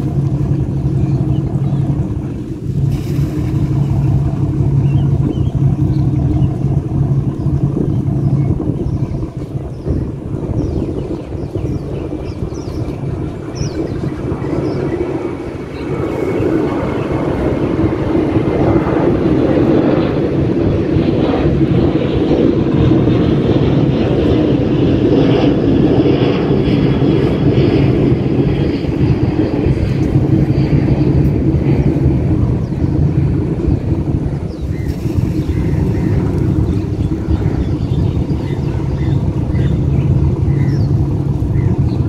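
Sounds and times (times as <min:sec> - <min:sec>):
large engine droning: 0:00.0 - 0:42.0.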